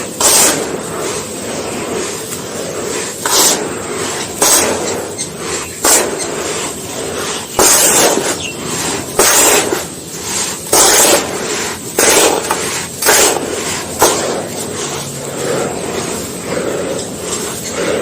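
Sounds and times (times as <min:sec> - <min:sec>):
sandy cups crunching and crumbling: 0:00.0 - 0:18.0.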